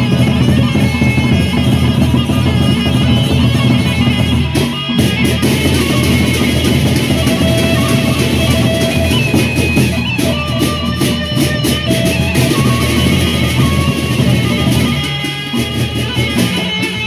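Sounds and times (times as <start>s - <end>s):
bamboo flute melody: 0.0s - 17.0s
large drums beating: 0.0s - 17.0s.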